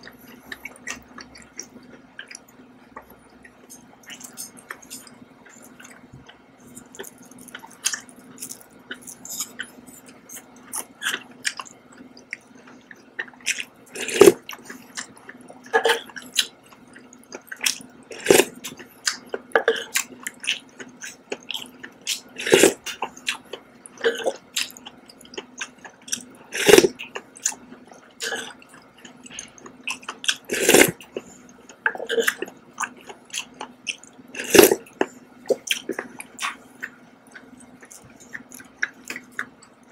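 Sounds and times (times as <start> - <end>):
faint steady hum: 0.0 - 39.9
person chewing wet mouth sounds: 0.0 - 39.9.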